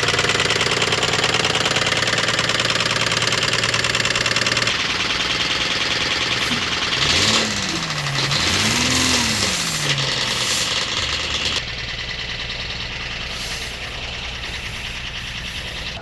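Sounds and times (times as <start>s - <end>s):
car engine running with knock: 0.0s - 16.0s.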